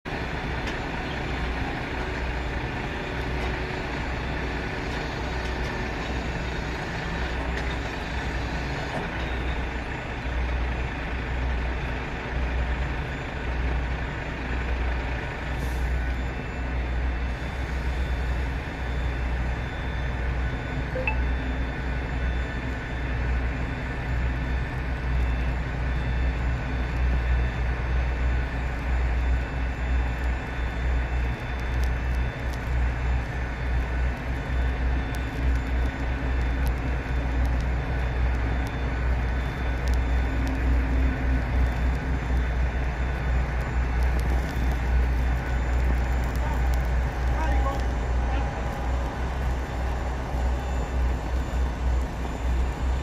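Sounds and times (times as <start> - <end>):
jet engines rumbling and whining: 0.1 - 53.0.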